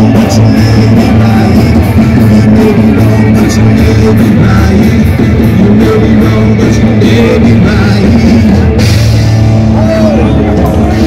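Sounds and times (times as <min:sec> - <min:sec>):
person singing: 0:00.0 - 0:09.0
loud rock music: 0:00.0 - 0:11.0.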